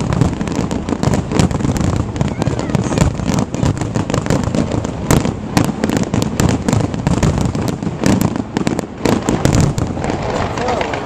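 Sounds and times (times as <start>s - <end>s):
fireworks bursting and crackling: 0.0s - 11.0s
rumble of fireworks booms: 0.0s - 11.0s.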